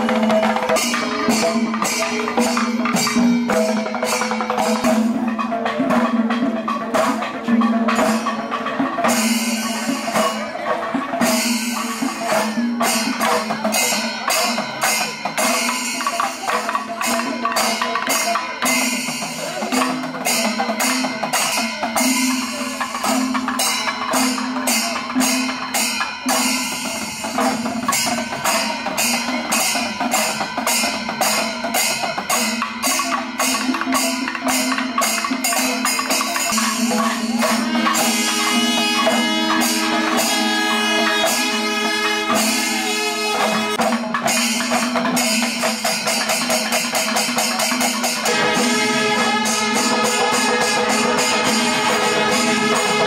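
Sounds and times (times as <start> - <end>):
drums and hand cymbals beating: 0.0 - 53.0.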